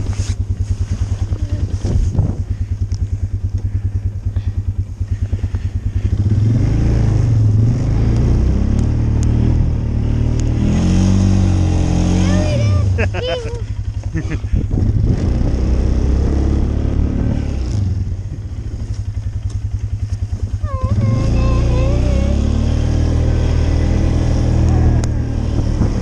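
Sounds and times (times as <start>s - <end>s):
small engine idling and revving: 0.0s - 26.0s.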